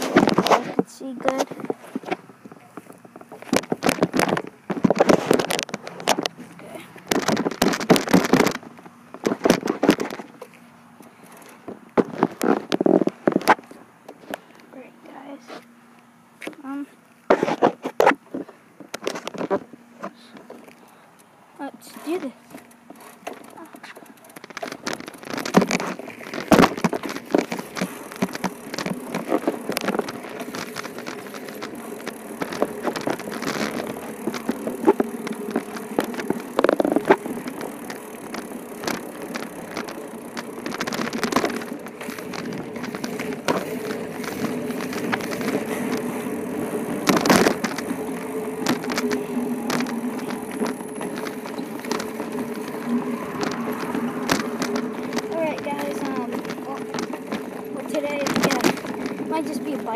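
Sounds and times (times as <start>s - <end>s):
bicycle rattling and clicking: 0.0s - 59.9s
steady low hum: 0.0s - 59.9s.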